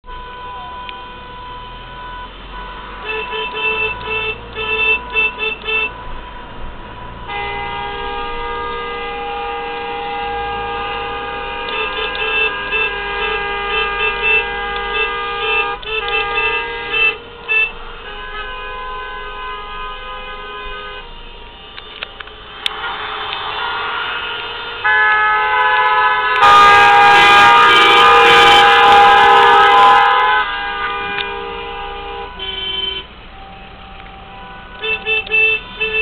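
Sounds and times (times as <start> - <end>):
car horns honking: 0.0 - 36.0.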